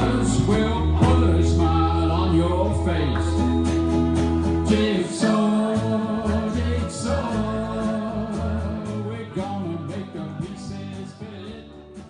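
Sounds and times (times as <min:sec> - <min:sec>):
person singing: 0:00.0 - 0:03.6, 0:04.5 - 0:12.0
rock and blues band music: 0:00.0 - 0:12.0.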